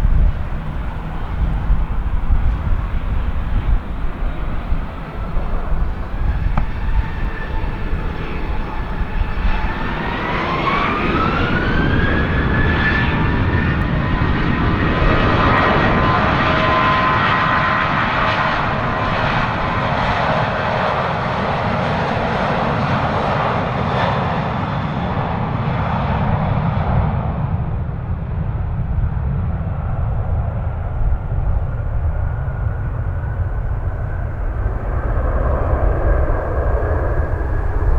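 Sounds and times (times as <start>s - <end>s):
jet engine whine: 0.0s - 37.9s
jet roar: 0.0s - 37.9s.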